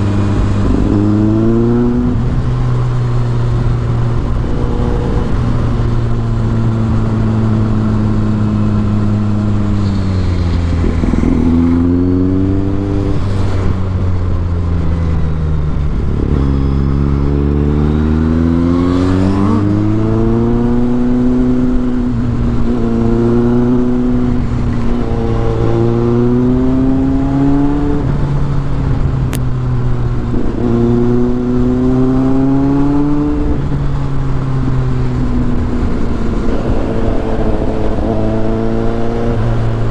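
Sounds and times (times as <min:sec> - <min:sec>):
motorcycle engine revving: 0:00.0 - 0:39.9
wind: 0:00.0 - 0:39.9.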